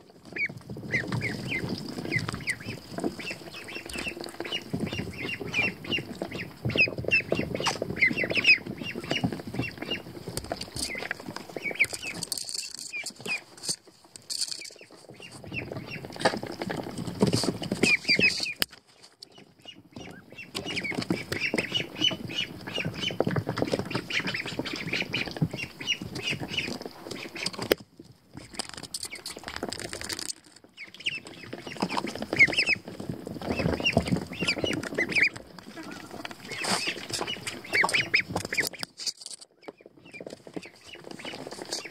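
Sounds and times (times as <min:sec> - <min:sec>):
rustling in wood shavings: 0:00.0 - 0:41.9
ducklings peeping: 0:00.1 - 0:13.6, 0:14.4 - 0:41.9.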